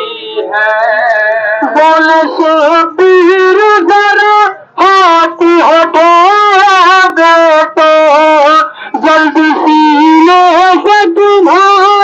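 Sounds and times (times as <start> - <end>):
person chanting through loudspeaker: 0.0 - 12.0.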